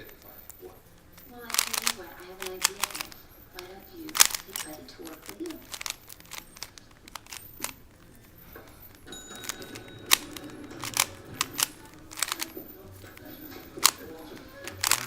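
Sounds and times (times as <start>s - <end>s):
faint television: 0.0s - 15.0s
puzzle cube plastic clicking: 0.0s - 15.0s.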